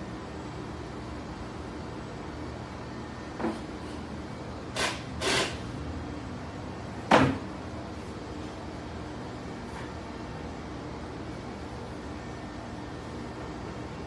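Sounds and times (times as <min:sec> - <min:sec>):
steady shop hum: 0:00.0 - 0:14.0.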